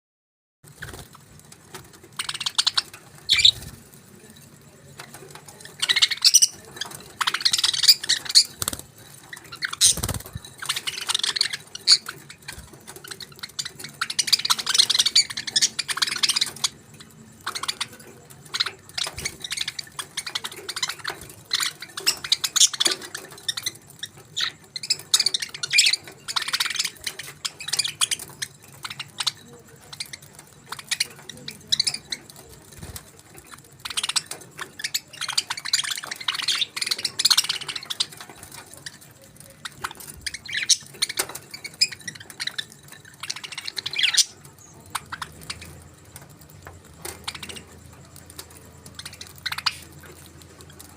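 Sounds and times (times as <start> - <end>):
budgerigars chirping and warbling: 0.7 - 50.9
squawky calls: 2.1 - 3.8, 5.0 - 50.9.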